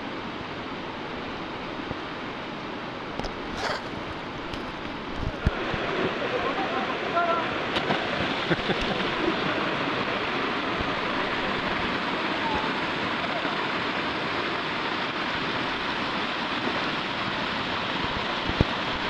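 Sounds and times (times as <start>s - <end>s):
whitewater rushing: 0.0s - 19.0s.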